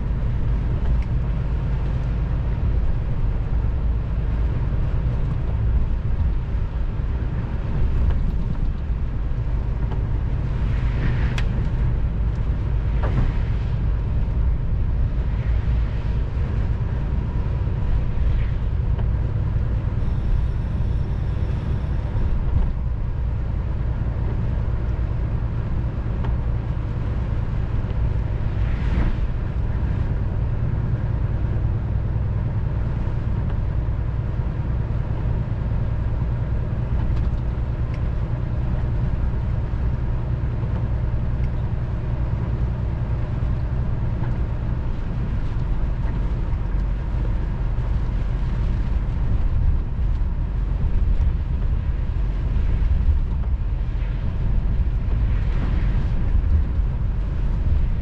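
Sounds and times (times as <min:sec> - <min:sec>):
lorry engine and tyres droning: 0:00.0 - 0:58.0.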